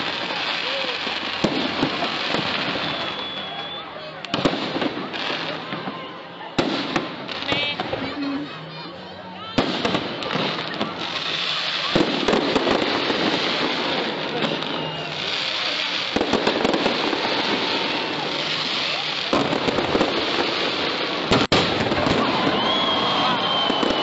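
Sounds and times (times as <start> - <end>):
fireworks crackling and popping: 0.0 - 8.8, 9.4 - 24.0.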